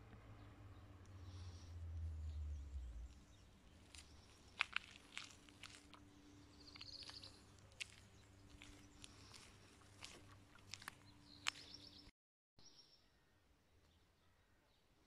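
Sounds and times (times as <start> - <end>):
bird calls: 0.2 - 13.3.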